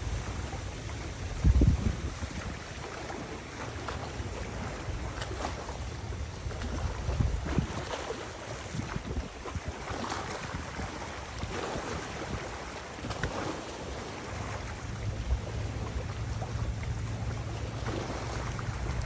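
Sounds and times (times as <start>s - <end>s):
wind rushing over microphone: 0.0s - 3.2s, 4.4s - 19.0s.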